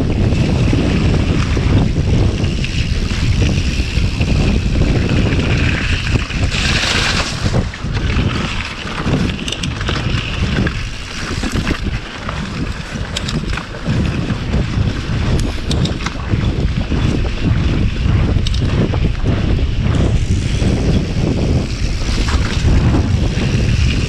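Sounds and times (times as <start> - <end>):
bike clicks and rattles: 0.0 - 24.0
tyre and trail noise: 0.0 - 24.0
wind buffeting microphone: 0.0 - 24.0.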